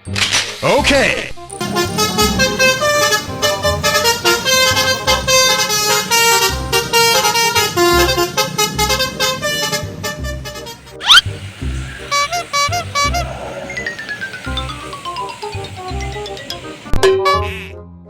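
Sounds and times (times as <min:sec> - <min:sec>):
multi-tone bus air horn melody: 0:01.5 - 0:17.7.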